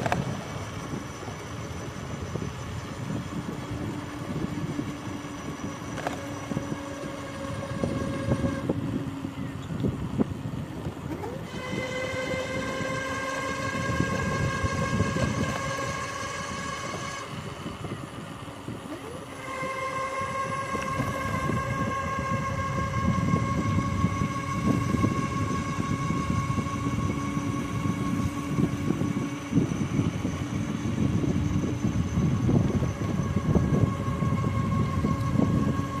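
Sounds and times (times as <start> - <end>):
electric motor whining: 0.0 - 36.0
rushing wind noise: 0.0 - 36.0.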